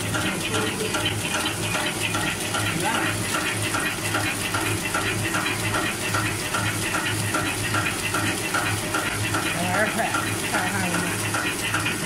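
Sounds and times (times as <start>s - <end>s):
packing machine humming and hissing: 0.0s - 12.0s
packing machine rhythmic beat: 0.0s - 12.0s.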